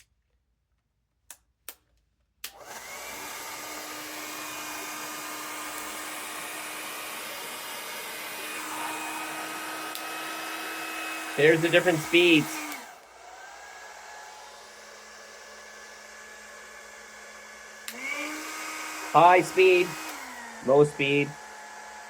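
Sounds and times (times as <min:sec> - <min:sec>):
hair dryer blowing: 0:02.5 - 0:22.0.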